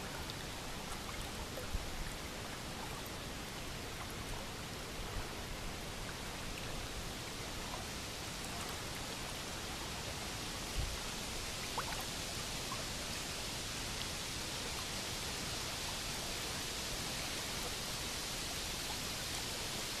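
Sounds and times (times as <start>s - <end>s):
river water flowing: 0.0s - 20.0s.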